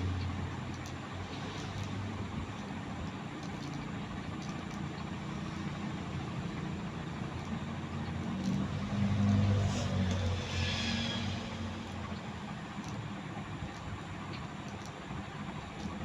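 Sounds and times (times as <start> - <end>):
ceiling fan motor hum: 0.0 - 16.0
soft airy fan noise: 0.0 - 16.0.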